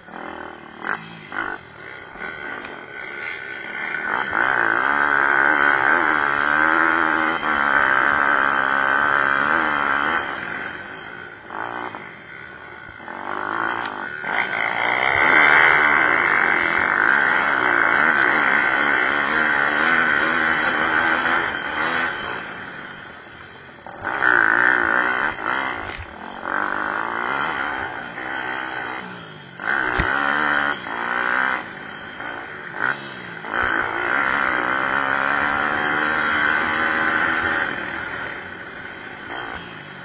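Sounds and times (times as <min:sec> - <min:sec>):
pit bike engines revving: 0:00.0 - 0:40.0.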